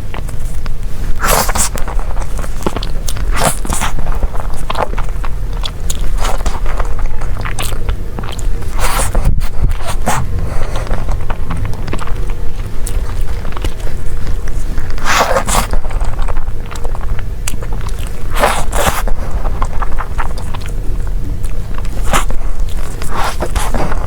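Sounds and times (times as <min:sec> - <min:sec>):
chewing with crisp crunching: 0:00.0 - 0:24.0.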